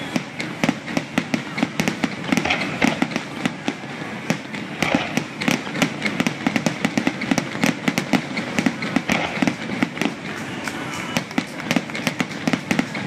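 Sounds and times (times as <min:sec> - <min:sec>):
firework shells bursting: 0:00.0 - 0:13.0
hiss of firework bursts: 0:00.0 - 0:13.0.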